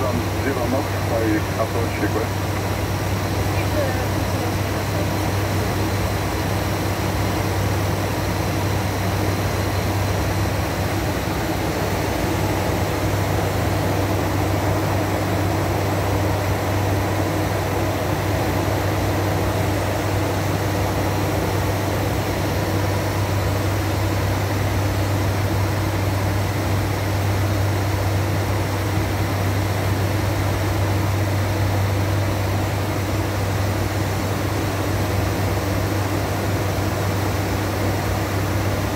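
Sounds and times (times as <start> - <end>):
propeller engines droning: 0.0 - 38.9.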